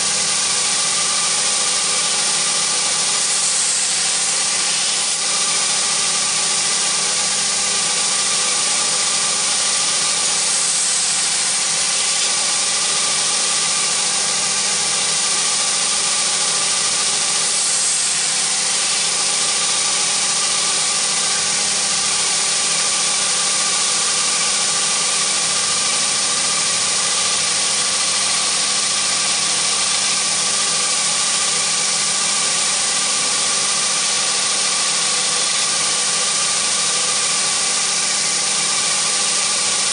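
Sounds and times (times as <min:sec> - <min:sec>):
belt grinder running: 0:00.0 - 0:39.9.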